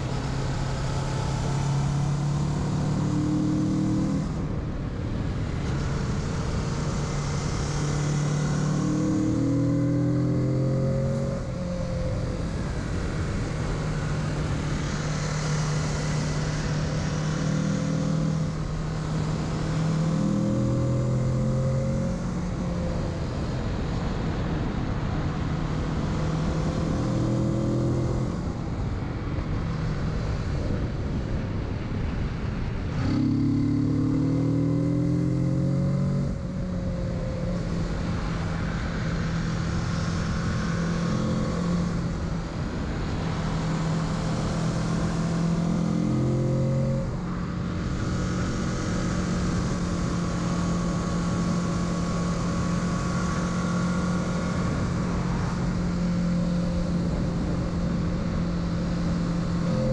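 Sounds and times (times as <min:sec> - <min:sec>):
motorcycle engine revving: 0:00.0 - 0:04.6, 0:05.5 - 0:28.9, 0:32.6 - 0:59.9.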